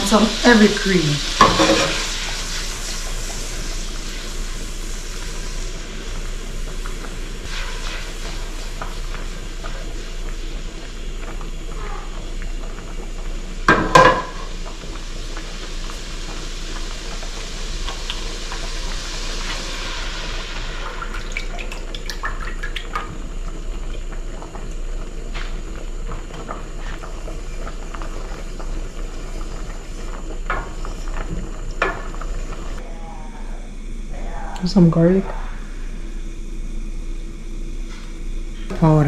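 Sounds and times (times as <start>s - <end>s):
cream hissing and bubbling in skillet: 0.0s - 32.9s.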